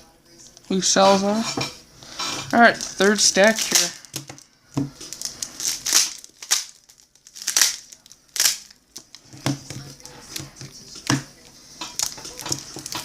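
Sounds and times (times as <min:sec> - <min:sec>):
card packs crinkling: 0:02.1 - 0:13.0.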